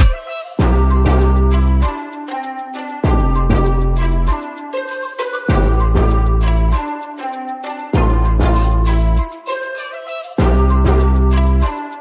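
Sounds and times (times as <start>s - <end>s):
background music with deep bass: 0.0s - 12.0s.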